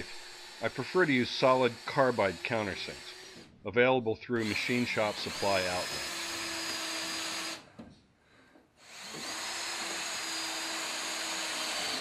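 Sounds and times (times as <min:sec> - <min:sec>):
cordless drill whining: 0:00.0 - 0:03.5, 0:04.4 - 0:07.7, 0:08.8 - 0:12.0.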